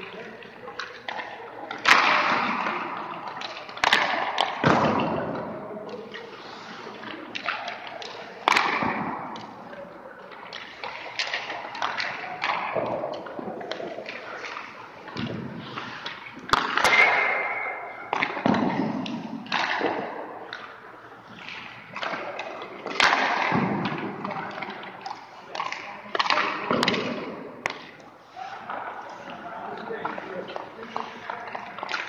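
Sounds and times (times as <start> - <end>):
pucks and sticks knocking: 0.8 - 6.2, 7.1 - 9.6, 10.2 - 28.0, 28.6 - 32.0.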